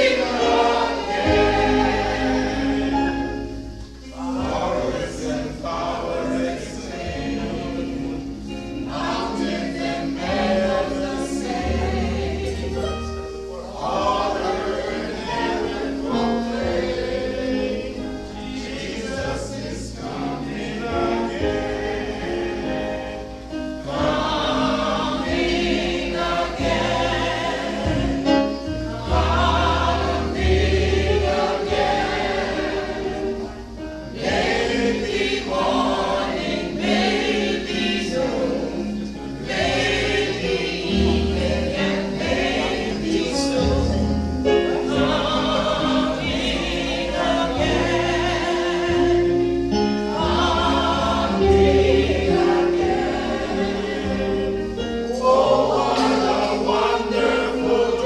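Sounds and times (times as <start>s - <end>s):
group singing a gospel hymn: 0.0s - 58.0s
instrumental accompaniment with bass: 0.0s - 58.0s.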